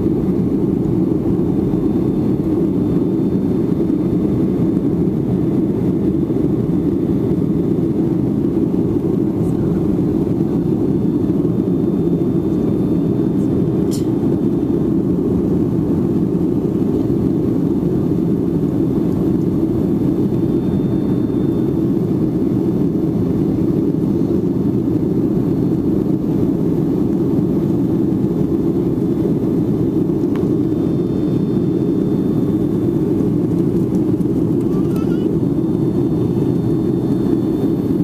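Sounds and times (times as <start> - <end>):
jet engine roar in cabin: 0.0 - 38.0.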